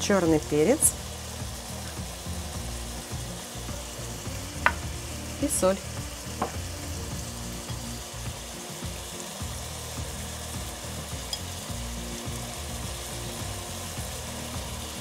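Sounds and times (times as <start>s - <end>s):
meat sizzling in frying pan: 0.0s - 15.0s.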